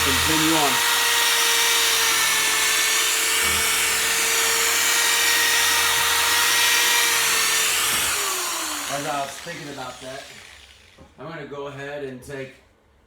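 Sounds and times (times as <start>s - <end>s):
electric drill whining: 0.0s - 11.1s.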